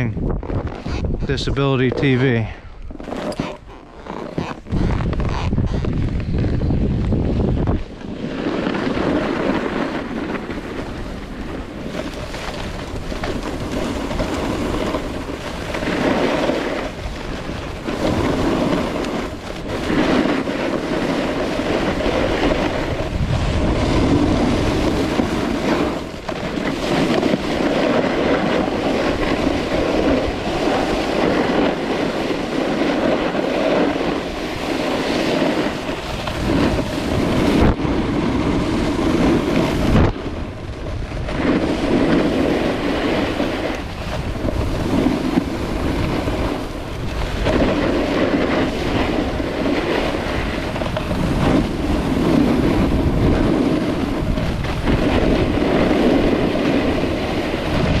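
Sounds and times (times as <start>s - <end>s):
snowboard scraping on snow: 0.0s - 58.0s
wind on microphone: 0.0s - 58.0s.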